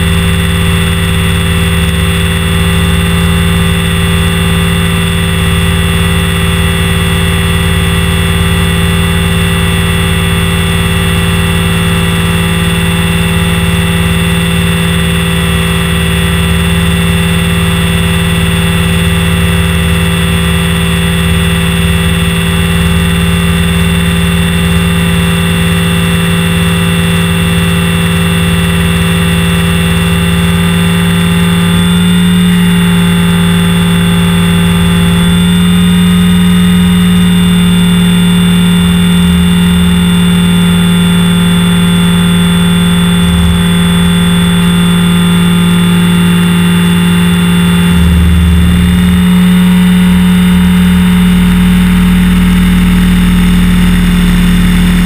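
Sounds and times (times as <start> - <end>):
rc helicopter rotor whine: 0.0 - 55.0.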